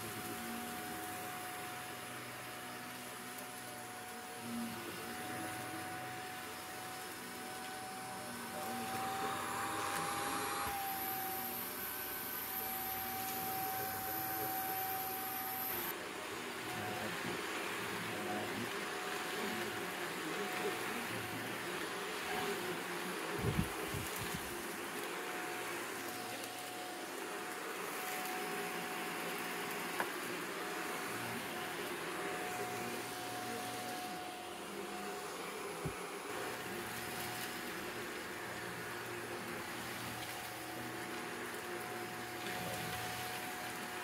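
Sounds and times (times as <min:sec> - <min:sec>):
vacuum cleaner running: 0:00.0 - 0:44.0.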